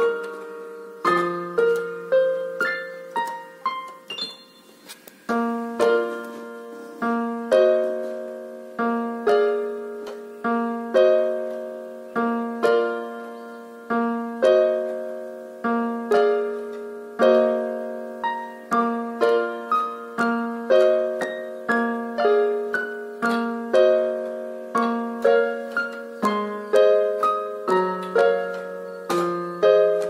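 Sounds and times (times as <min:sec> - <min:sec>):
piano chords: 0:00.0 - 0:30.0.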